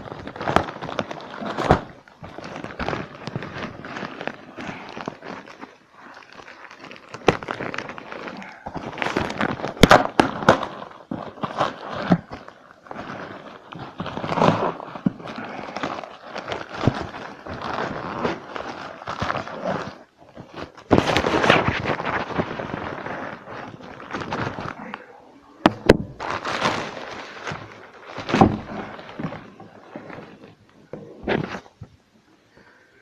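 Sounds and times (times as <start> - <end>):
packaging crackling and rustling: 0.0 - 32.0.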